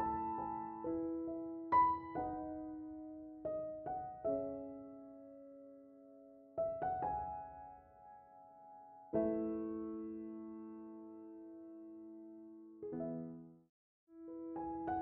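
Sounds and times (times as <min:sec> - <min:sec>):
soft solo piano: 0:00.0 - 0:15.0.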